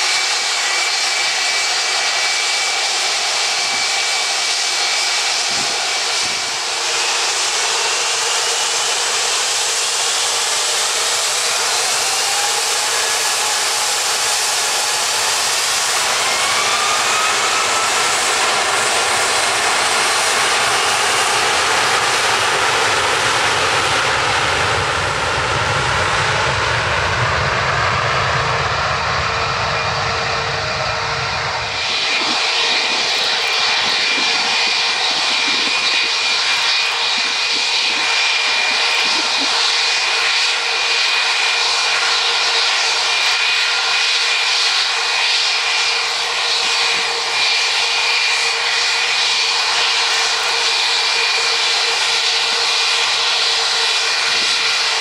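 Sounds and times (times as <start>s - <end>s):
high-pitched jet whine: 0.0s - 55.0s
jet engine deep rumble: 0.0s - 55.0s.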